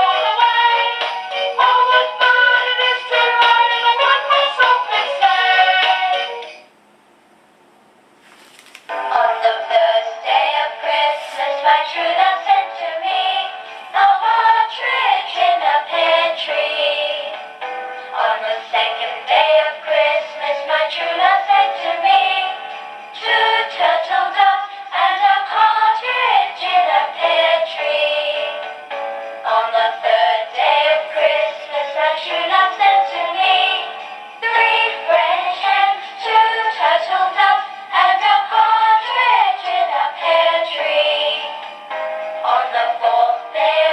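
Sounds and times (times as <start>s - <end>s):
song through small speaker: 0.0s - 6.8s, 8.8s - 43.9s.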